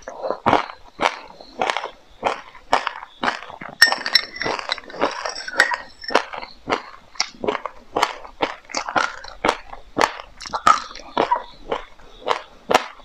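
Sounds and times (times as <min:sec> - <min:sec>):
chewing crunchy seeds: 0:00.0 - 0:13.0.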